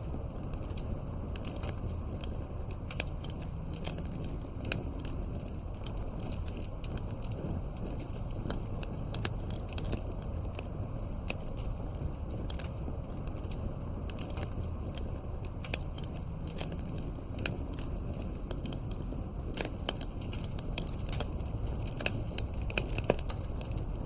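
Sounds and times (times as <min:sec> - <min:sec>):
burning wood popping and crackling: 0:00.0 - 0:24.0
campfire rumble: 0:00.0 - 0:24.0.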